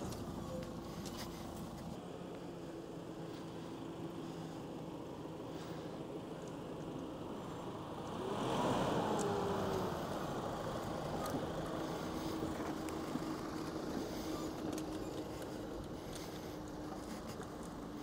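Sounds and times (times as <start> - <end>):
pickup truck engine running: 0.0 - 18.0.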